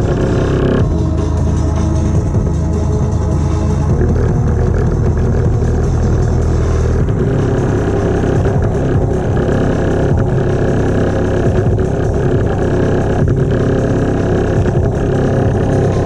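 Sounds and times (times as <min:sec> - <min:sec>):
slowed-down engine drone: 0:00.0 - 0:16.0.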